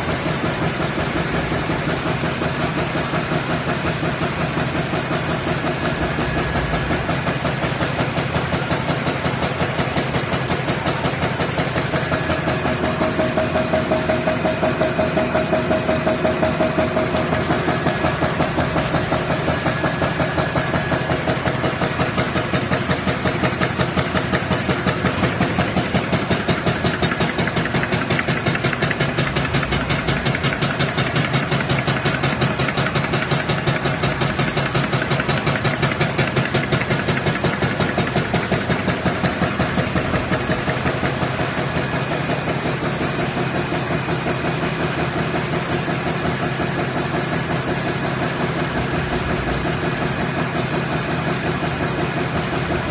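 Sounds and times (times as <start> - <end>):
die-cutting machine clattering: 0.0 - 52.9
steady mechanical hum: 0.0 - 52.9.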